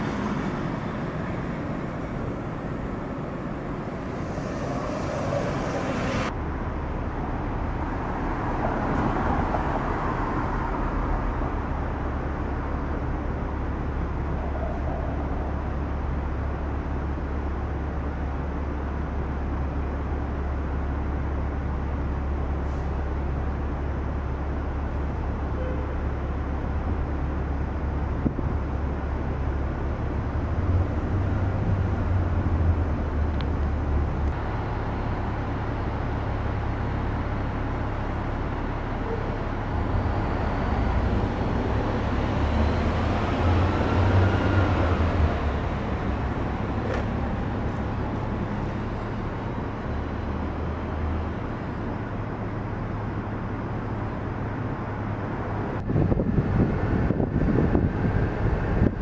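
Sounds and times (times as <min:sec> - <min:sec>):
city traffic rumble: 0:00.0 - 0:59.0
vehicle whine: 0:00.0 - 0:59.0
vehicles passing: 0:00.0 - 0:59.0.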